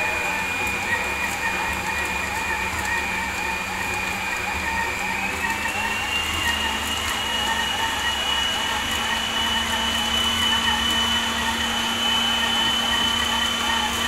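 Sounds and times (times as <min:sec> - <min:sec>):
stand mixer motor whine: 0:00.0 - 0:14.0.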